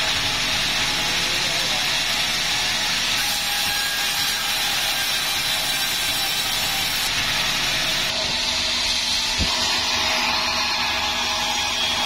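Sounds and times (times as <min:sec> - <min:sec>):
saw blade cutting log: 0:00.9 - 0:12.0.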